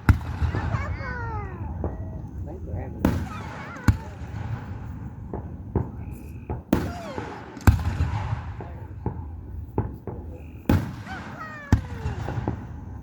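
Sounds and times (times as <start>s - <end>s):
fireworks bursting with sharp bangs: 0.0s - 13.0s
steady low rumble: 0.1s - 10.8s.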